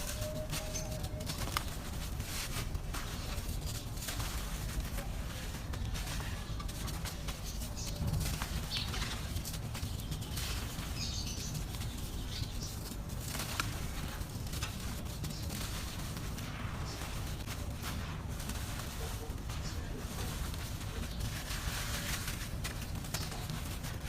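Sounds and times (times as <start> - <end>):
dry dirt crumbling: 0.0 - 24.0.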